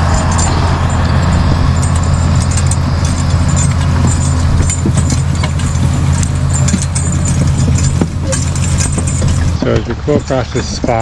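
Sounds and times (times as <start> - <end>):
diesel engine running: 0.0 - 11.0
light metallic clinks: 0.0 - 11.0.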